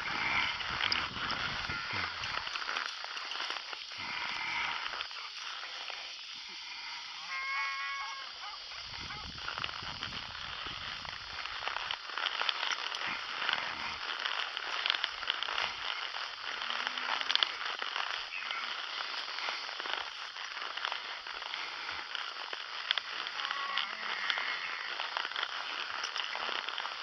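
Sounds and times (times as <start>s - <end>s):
brush and twigs crackling: 0.0s - 27.0s.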